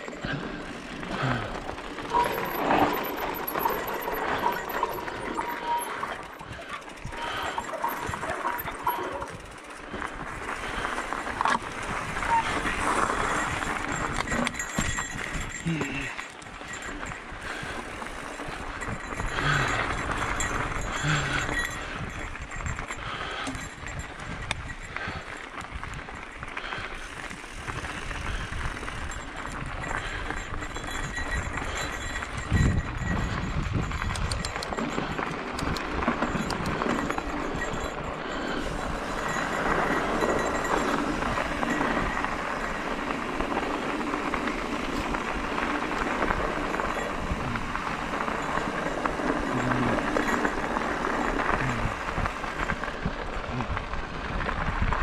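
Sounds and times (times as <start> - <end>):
bike rattling over bumps: 0.0 - 55.0
tyres crunching on dirt trail: 0.0 - 55.0
wind rumbling on microphone: 0.2 - 55.0.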